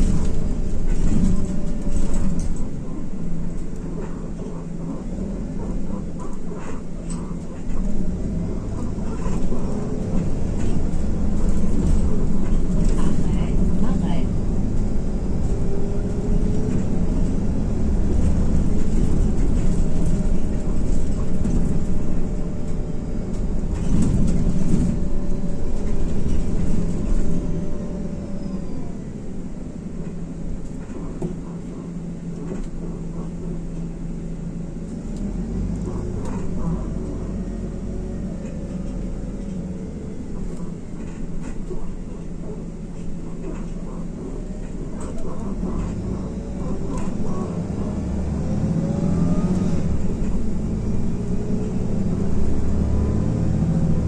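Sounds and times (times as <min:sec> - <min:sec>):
bus engine drone with whine: 0:00.0 - 0:54.0.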